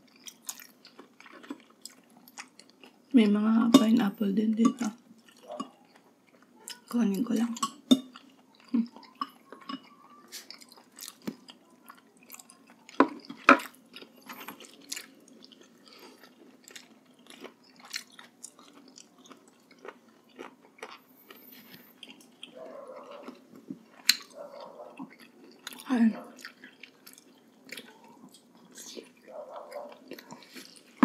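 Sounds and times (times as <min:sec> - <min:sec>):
wet chewing and smacking: 0:00.0 - 0:03.9, 0:04.6 - 0:31.0.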